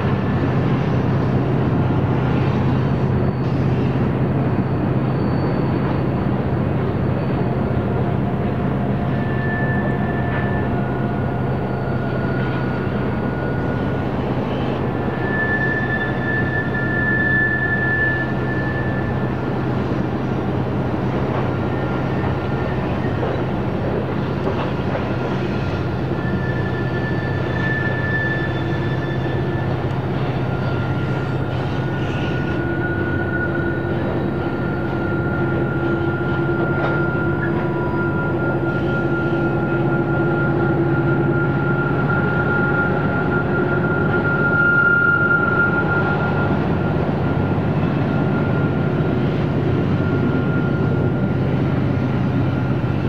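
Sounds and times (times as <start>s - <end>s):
high wheel squeals: 0.0s - 53.0s
train diesel drone: 0.0s - 53.0s.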